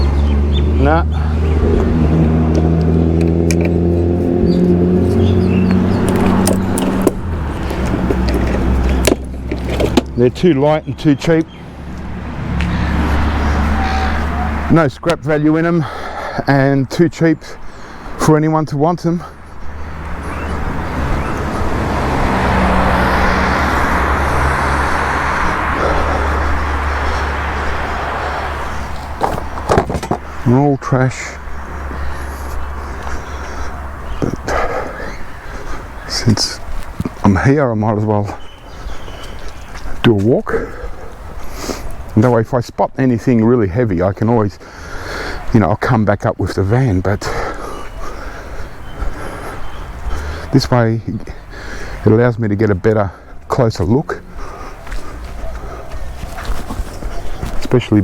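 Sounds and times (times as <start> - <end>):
van engine humming: 0.0 - 58.0
vehicle passing by: 0.0 - 58.0.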